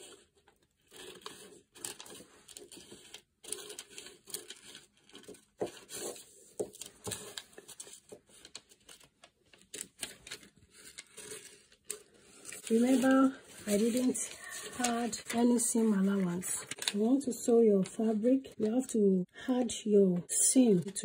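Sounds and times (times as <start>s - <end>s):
paper rustling: 0.0s - 18.9s.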